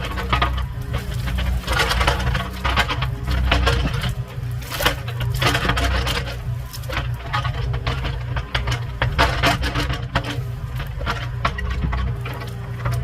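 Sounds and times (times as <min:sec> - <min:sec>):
branches cracking and snapping: 0:00.0 - 0:13.0
mini excavator engine running: 0:00.0 - 0:13.0.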